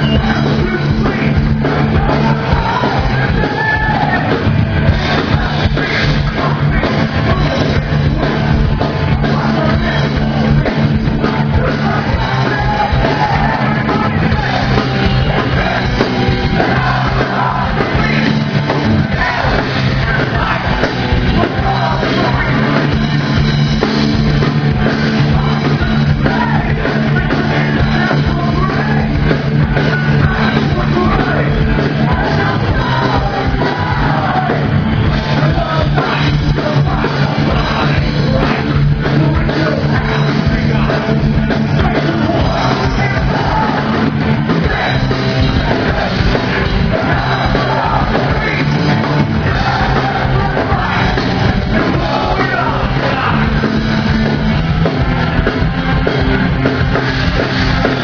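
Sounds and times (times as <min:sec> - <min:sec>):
heavy rock song with singer: 0:00.0 - 0:58.0.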